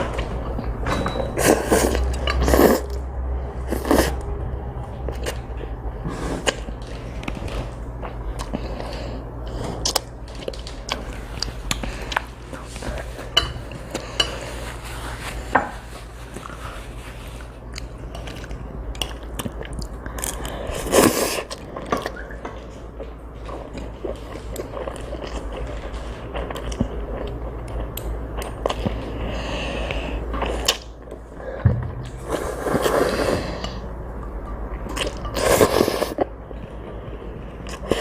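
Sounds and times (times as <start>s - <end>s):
child chewing noodles: 0.0s - 31.6s, 32.2s - 38.0s
steady low hum: 0.0s - 38.0s.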